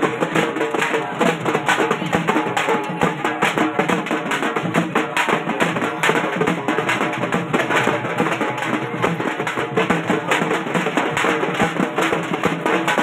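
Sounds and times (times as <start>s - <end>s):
marching drums beating: 0.0s - 13.0s.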